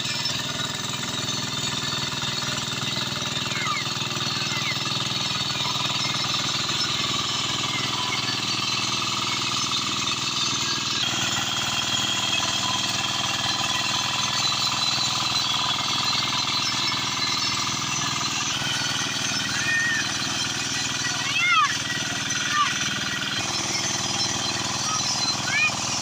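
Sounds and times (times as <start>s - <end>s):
tractor engine chugging: 0.0s - 26.0s.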